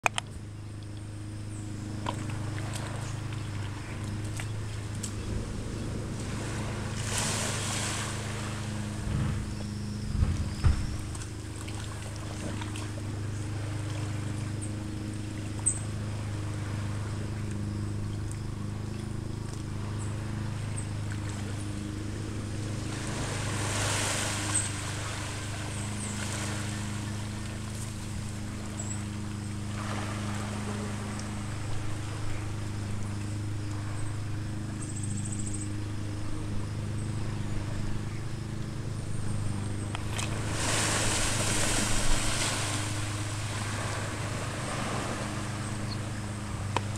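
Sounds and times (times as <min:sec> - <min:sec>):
boat engine idling: 0:00.0 - 0:46.9
small waves washing: 0:01.6 - 0:46.9.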